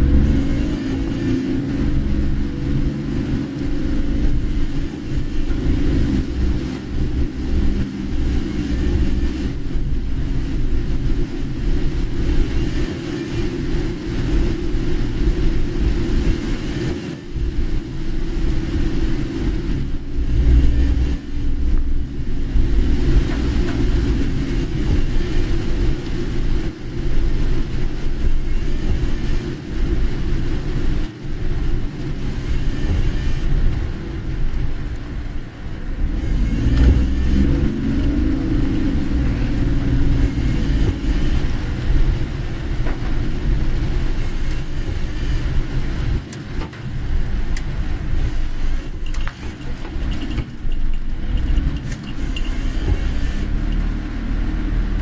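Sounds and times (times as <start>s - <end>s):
car engine rumble: 0.0s - 55.0s
road noise inside car: 0.0s - 55.0s.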